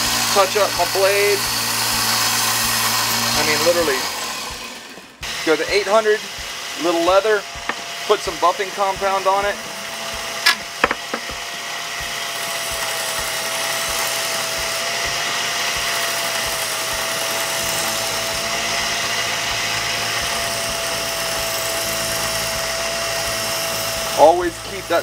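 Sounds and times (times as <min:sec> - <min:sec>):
belt sander whine: 0:00.0 - 0:25.0
blade hissing on belt: 0:00.0 - 0:25.0.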